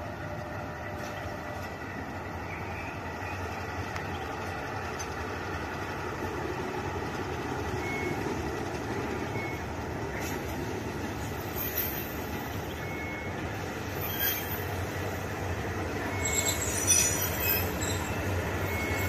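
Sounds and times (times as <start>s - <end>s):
diesel locomotive engine rumbling: 0.0s - 19.0s.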